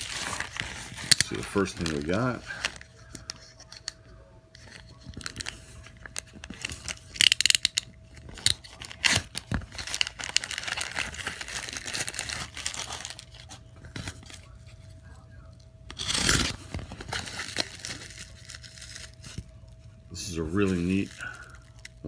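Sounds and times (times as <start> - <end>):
plastic mailer crinkling and tearing: 0.0 - 14.9, 15.9 - 19.6, 20.2 - 22.0.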